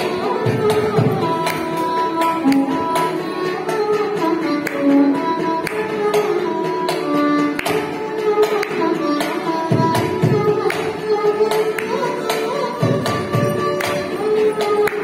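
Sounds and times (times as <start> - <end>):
hand drum strokes: 0.0 - 15.0.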